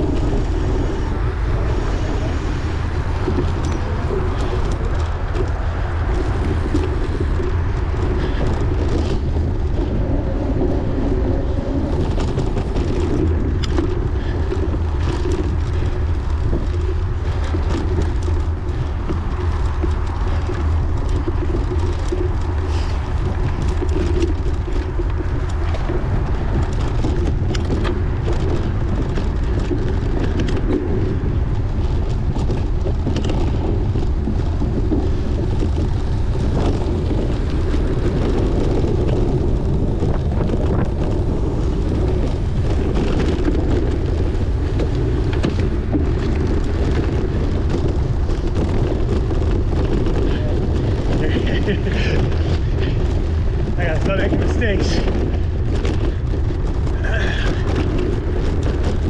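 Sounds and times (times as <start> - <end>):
bicycle clicks and rattles: 0.0 - 59.0
wind rumbling on microphone: 0.0 - 59.0.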